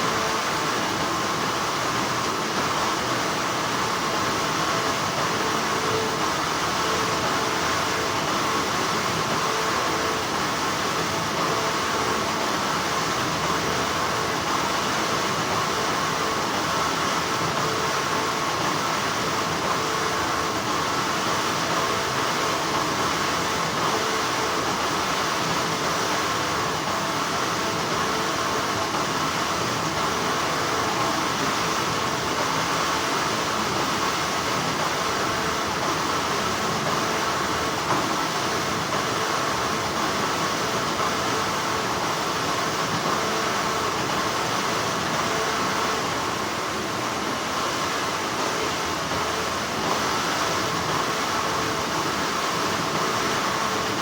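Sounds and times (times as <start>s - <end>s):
factory machinery hum: 0.0s - 54.0s.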